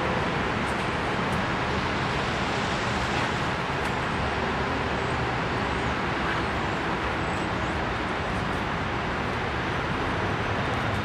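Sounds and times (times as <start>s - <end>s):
steady rushing background noise: 0.0s - 11.0s.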